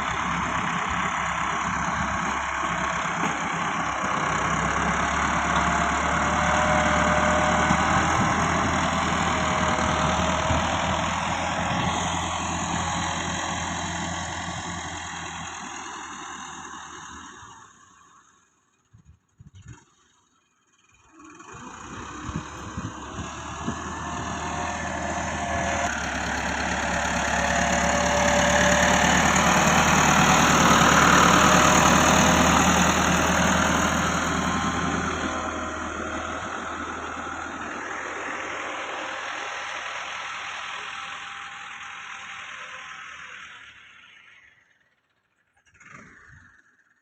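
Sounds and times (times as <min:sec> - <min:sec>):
tractor diesel engine running: 0:00.0 - 0:46.8.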